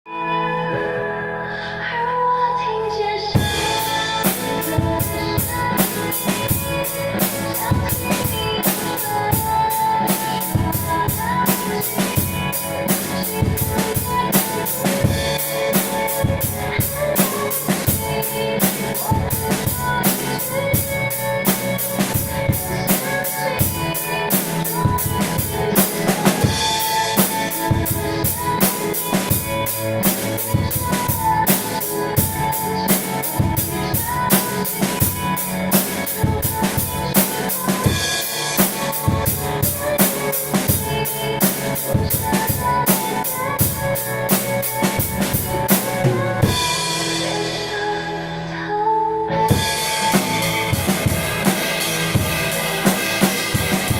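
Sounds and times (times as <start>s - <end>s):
pop ballad backing track: 0.1s - 53.9s
drum kit playing a steady beat: 3.4s - 48.5s, 49.3s - 53.9s.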